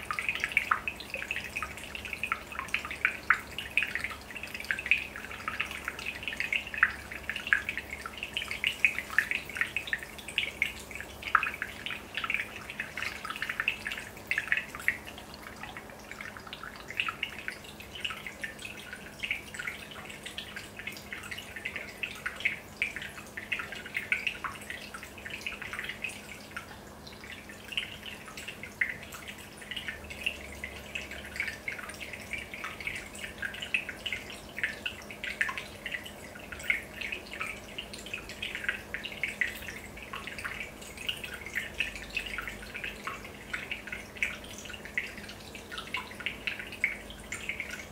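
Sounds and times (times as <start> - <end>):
aquarium bubbling: 0.0 - 47.9
faint steady hum: 0.0 - 47.9.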